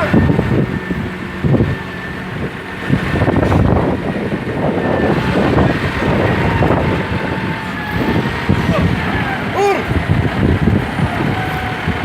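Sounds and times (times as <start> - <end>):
vehicle engine rumbling: 0.0 - 12.0
wind on microphone: 0.0 - 12.0.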